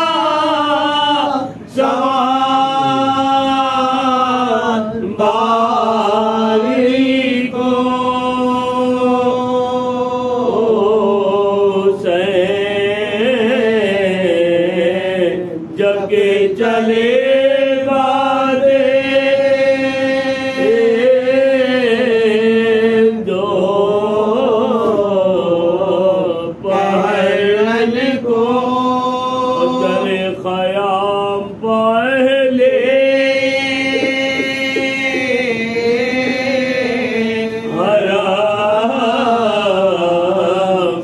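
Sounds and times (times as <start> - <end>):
men chanting a lament: 0.0 - 41.0.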